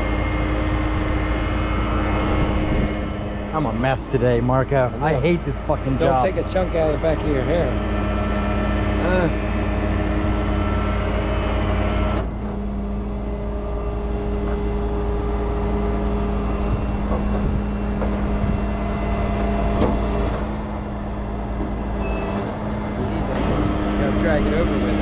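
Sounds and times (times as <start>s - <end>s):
heavy truck engine running: 0.0s - 25.0s.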